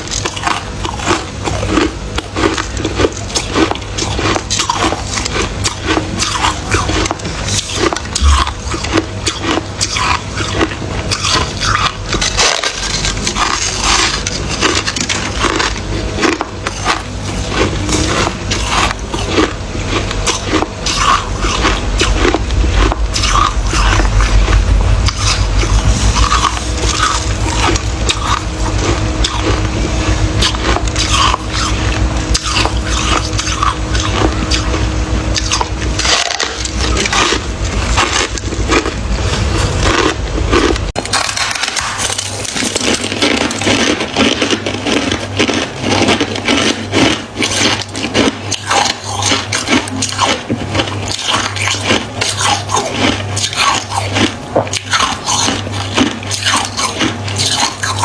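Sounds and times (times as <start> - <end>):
frost crunching when chewed: 0.0 - 58.0
low hum: 0.0 - 58.0.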